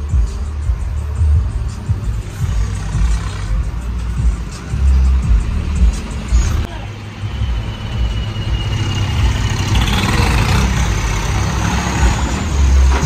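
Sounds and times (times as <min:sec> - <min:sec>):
tractor diesel engines: 0:00.0 - 0:13.0.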